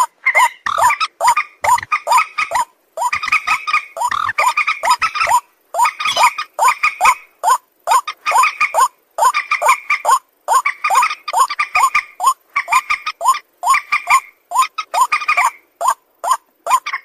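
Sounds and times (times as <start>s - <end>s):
bird calling quickly: 0.0s - 17.0s.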